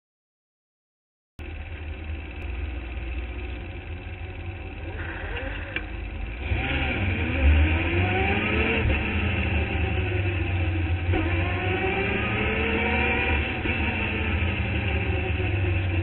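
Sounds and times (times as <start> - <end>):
race car engine: 1.4 - 16.0.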